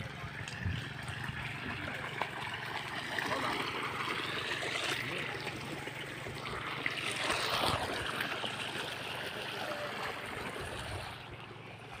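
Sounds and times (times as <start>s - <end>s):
rush of flowing water: 0.0s - 12.0s.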